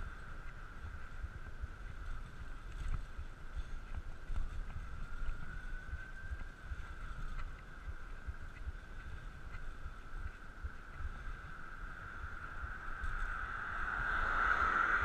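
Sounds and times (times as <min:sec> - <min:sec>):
steady high whine: 0:00.0 - 0:15.0
wind buffeting microphone: 0:00.0 - 0:15.0.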